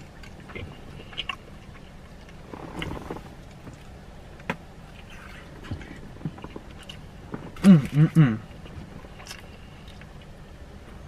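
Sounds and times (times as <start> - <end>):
person chewing: 0.0 - 4.0, 4.8 - 10.4
low steady car cabin hum: 0.0 - 11.0.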